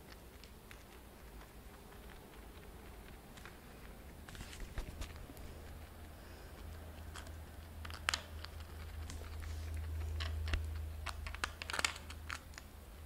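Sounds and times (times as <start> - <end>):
guinea pig crunching: 0.0 - 13.0
low steady hum: 0.0 - 13.0.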